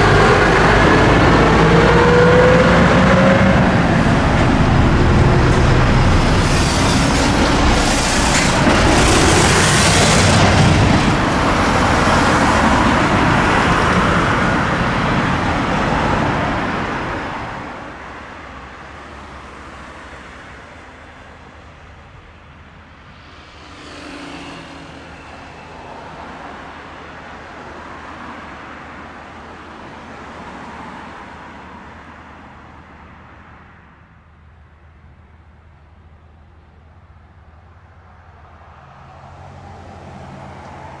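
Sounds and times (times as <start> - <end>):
road traffic passing: 0.0 - 35.1, 36.0 - 41.0.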